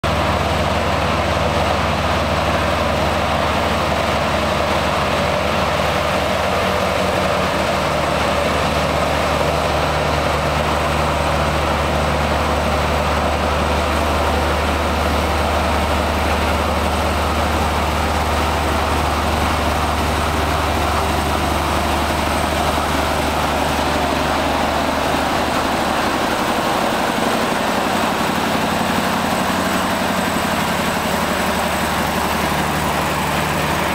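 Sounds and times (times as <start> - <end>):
heavy trucks deep engine drone: 0.0 - 33.9.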